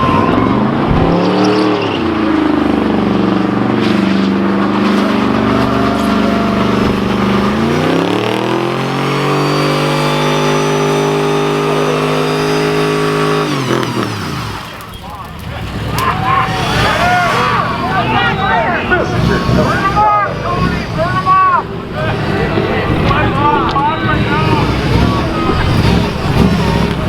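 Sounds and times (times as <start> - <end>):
car engine revving high: 0.0 - 14.8, 15.8 - 27.0.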